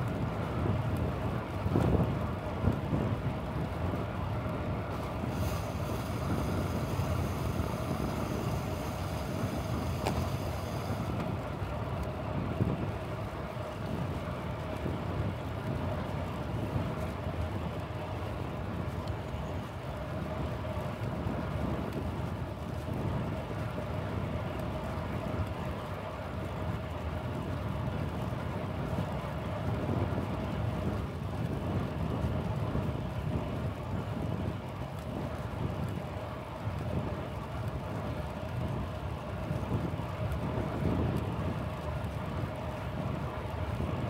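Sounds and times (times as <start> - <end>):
road rumble: 0.0 - 44.0
wind buffeting microphone: 0.0 - 44.0.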